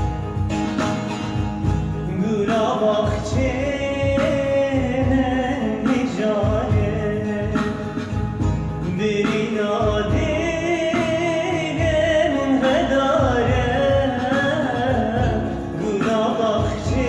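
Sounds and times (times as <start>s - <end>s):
instrumental backing with beat: 0.0s - 17.0s
man singing: 1.9s - 17.0s.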